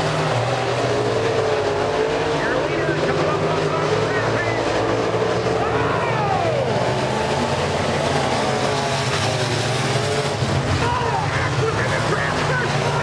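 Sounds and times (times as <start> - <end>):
race car engines howling: 0.0 - 13.0.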